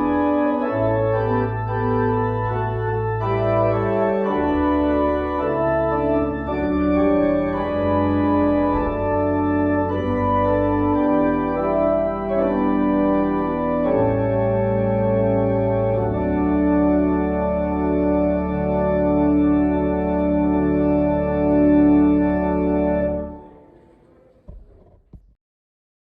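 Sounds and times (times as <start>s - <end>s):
organ chords: 0.0s - 24.8s.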